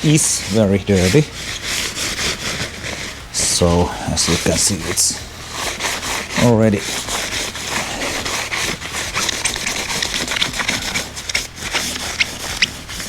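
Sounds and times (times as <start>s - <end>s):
scraping at a motorcycle wheel: 0.0s - 13.0s.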